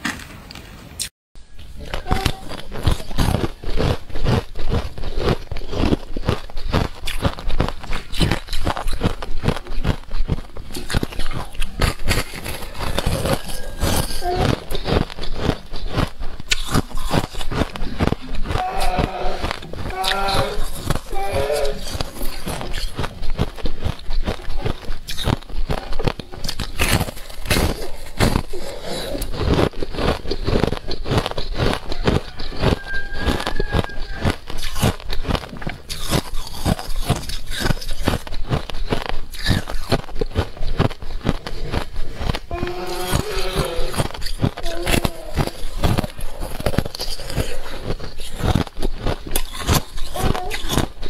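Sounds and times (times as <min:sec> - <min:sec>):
ice crunching between teeth: 0:01.0 - 0:51.0.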